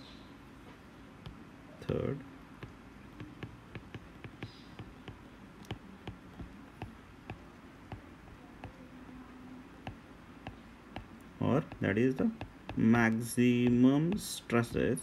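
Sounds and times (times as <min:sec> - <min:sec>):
stylus tapping on glass screen: 0:01.2 - 0:08.8, 0:09.8 - 0:14.9.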